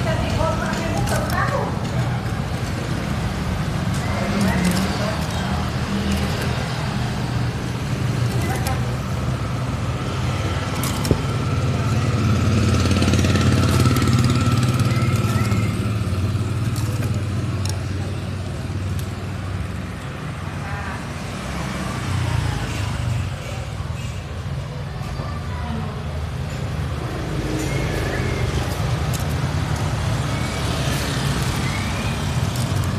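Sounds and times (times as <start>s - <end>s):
low traffic rumble: 0.0s - 32.9s.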